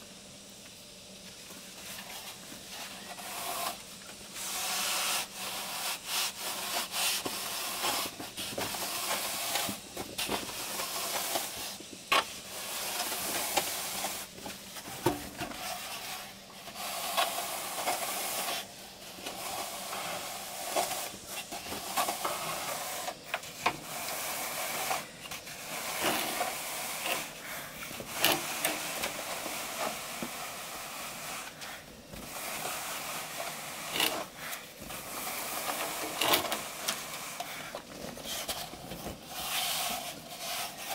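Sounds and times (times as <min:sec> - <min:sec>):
pipe scraping wet cement: 0:01.8 - 0:40.9.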